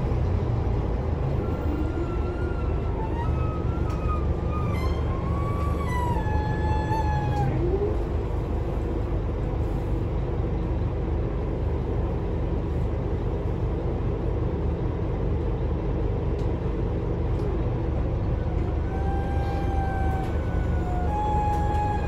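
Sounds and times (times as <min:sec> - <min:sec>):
bus diesel engine idling: 0:00.0 - 0:22.0.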